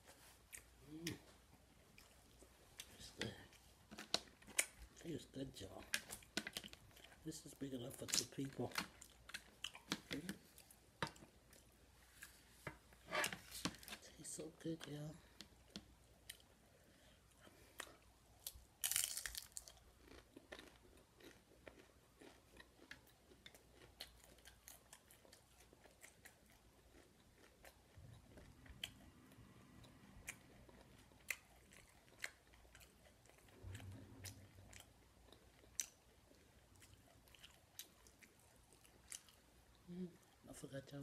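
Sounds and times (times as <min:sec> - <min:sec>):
chewing and crunching food: 0:00.0 - 0:41.0.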